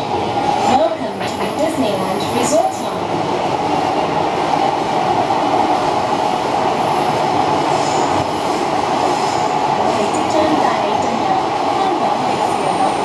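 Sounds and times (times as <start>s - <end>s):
train rumbling in tunnel: 0.0s - 13.0s.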